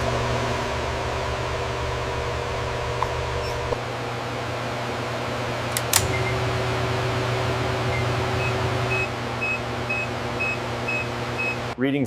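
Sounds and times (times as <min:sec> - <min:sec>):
low machinery hum: 0:00.0 - 0:11.8.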